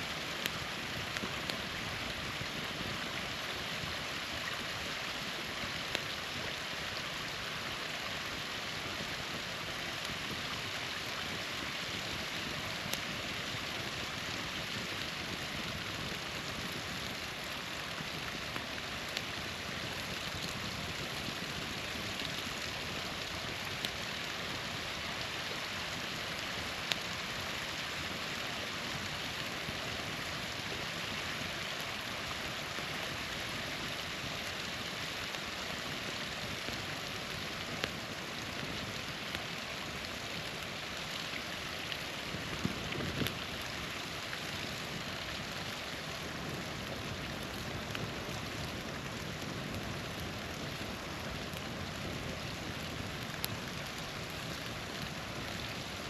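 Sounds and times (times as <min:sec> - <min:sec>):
campfire crackling: 0:00.0 - 0:56.0
small waterfall splashing: 0:00.0 - 0:56.0.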